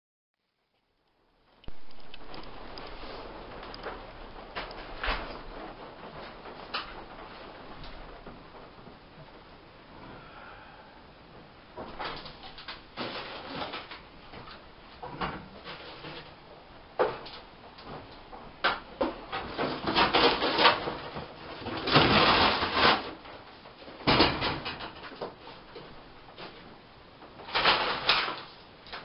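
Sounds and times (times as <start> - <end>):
rustling and scraping of handled objects: 1.0 - 29.0.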